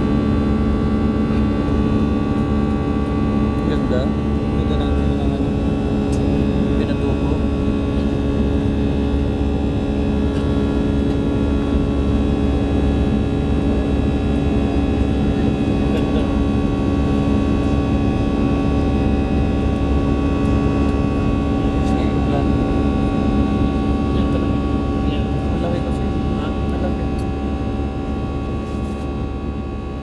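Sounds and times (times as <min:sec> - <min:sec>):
jet engines droning in cabin: 0:00.0 - 0:30.0
steady whining tones: 0:00.0 - 0:30.0.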